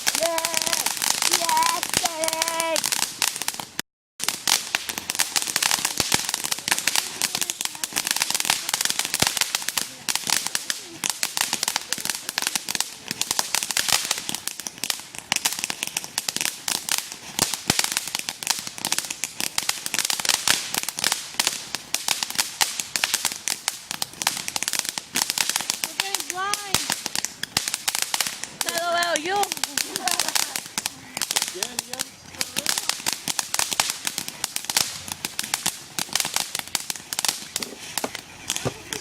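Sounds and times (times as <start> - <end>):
ground firework crackling: 0.0 - 39.0.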